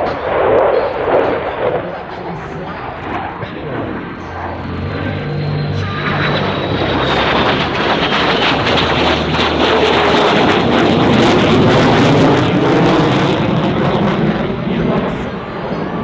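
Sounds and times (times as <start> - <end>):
jet engines roaring with crackle: 0.0 - 16.0.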